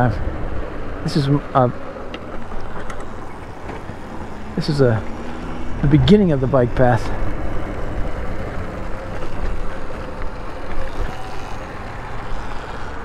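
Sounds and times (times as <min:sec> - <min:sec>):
riding rumble: 0:00.0 - 0:13.0.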